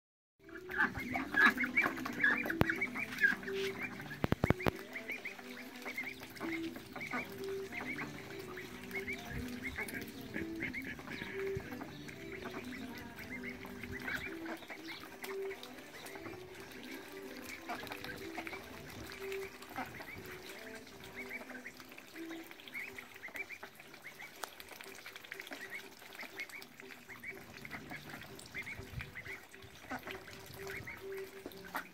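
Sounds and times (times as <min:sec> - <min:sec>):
bills dabbling in water: 0:00.4 - 0:31.9
ducks chirping: 0:00.4 - 0:31.9.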